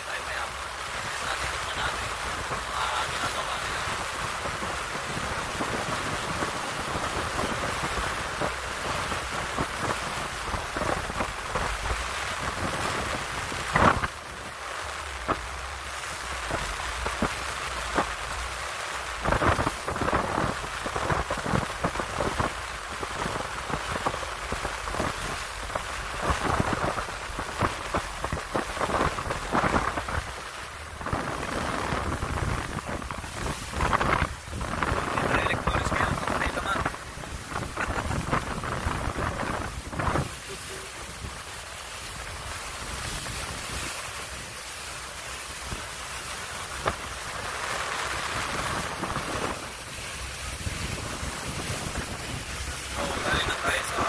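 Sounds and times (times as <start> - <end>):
water splashing: 0.0 - 54.0
wind on microphone: 0.0 - 54.0.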